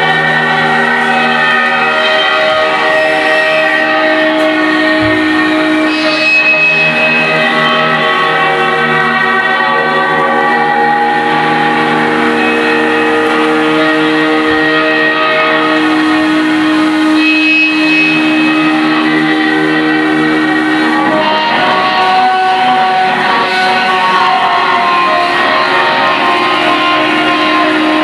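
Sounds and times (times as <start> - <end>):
electric guitars droning: 0.0 - 28.0.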